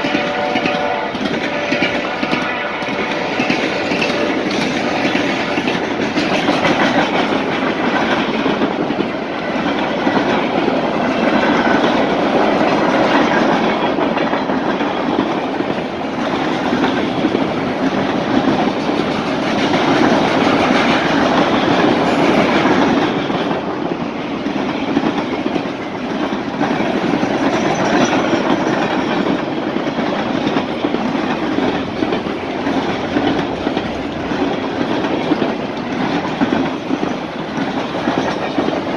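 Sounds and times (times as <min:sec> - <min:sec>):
train wheels rattling over rails: 0:00.0 - 0:38.9.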